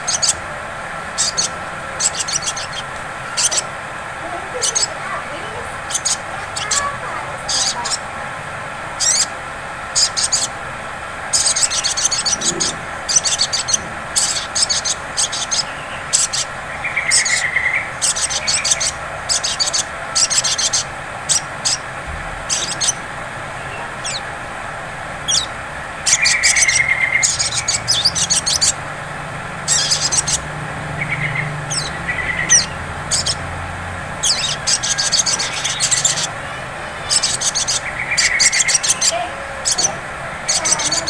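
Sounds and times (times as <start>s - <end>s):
sunbird chattering trills: 0.0s - 28.9s, 29.5s - 41.0s.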